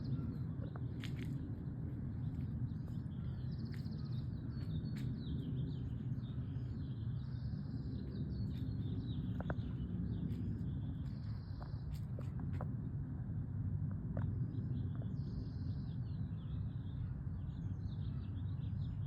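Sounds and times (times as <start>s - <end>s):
birds chirping and trilling: 0.0s - 12.7s, 14.5s - 19.0s
low background rumble: 0.0s - 19.0s.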